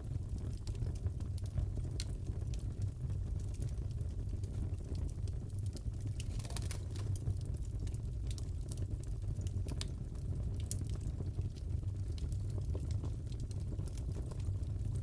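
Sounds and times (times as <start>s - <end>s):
fireplace crackling: 0.3s - 9.9s, 10.6s - 14.8s.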